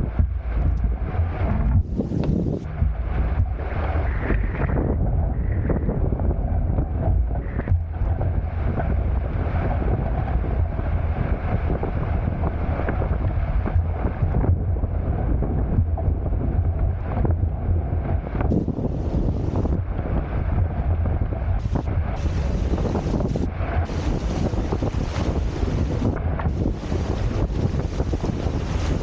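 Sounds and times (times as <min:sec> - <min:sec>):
water rushing along hulls: 0:00.0 - 0:29.0
wind buffeting microphone: 0:00.0 - 0:29.0.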